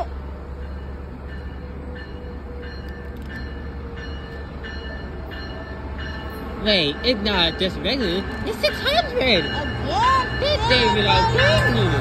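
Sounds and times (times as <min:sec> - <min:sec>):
train bell dinging: 0:00.0 - 0:12.0
train low rumble: 0:00.0 - 0:12.0.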